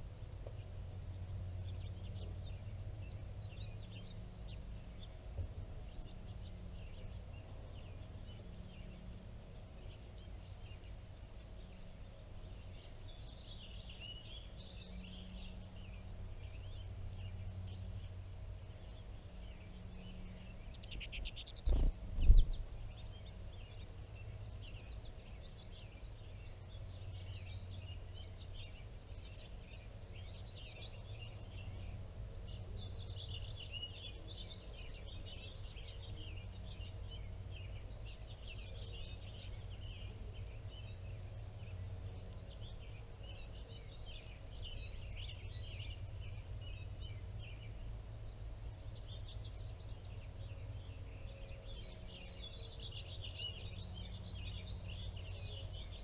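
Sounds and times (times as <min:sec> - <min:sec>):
low steady rumble: 0:00.0 - 0:56.0
songbirds twittering and chirping: 0:00.0 - 0:56.0.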